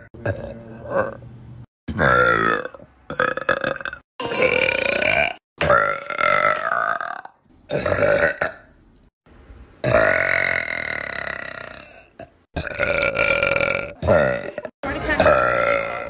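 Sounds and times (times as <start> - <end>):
person belching: 0.1 - 1.2, 1.9 - 8.7, 9.8 - 16.0.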